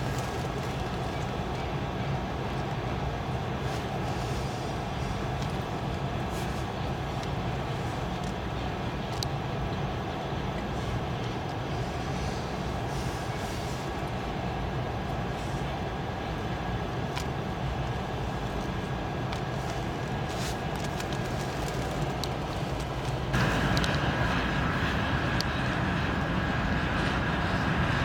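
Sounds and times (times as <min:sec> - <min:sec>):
train wheels on rails: 0:00.0 - 0:28.0.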